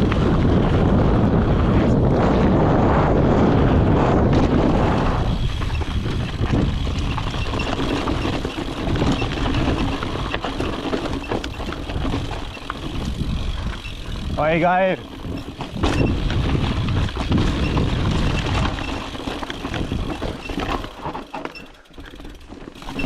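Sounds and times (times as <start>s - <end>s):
wind on microphone: 0.0s - 20.8s
bike clicks and rattles: 0.0s - 23.0s.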